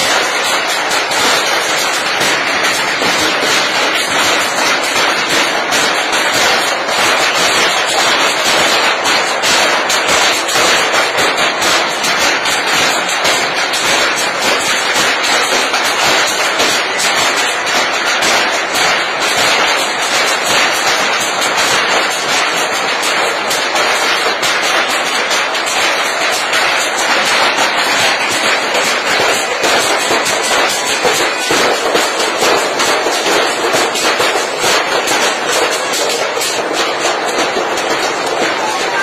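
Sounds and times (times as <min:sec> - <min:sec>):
sticks beating a metal sheet: 0:00.0 - 0:39.0.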